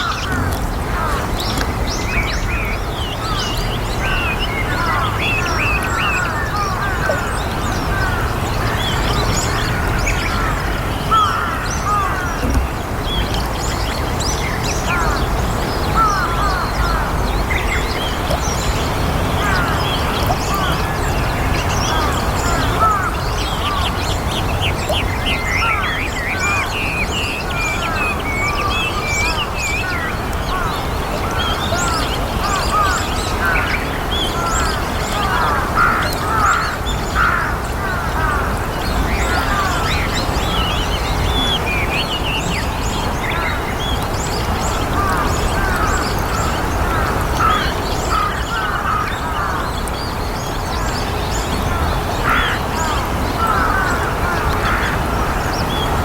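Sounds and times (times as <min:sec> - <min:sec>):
starlings chattering: 0:00.0 - 0:56.0.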